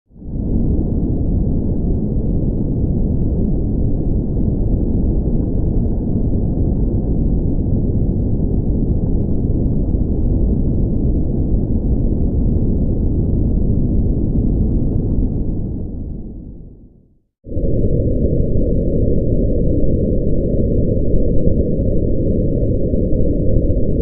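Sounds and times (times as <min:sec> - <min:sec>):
muffled underwater water rumble: 0:00.2 - 0:24.0.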